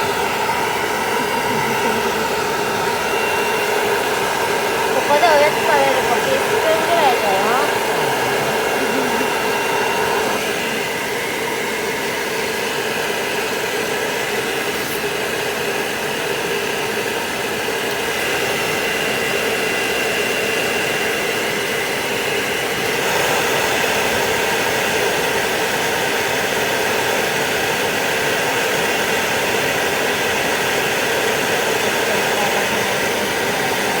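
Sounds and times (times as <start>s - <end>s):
hair dryer blowing: 0.0s - 34.0s.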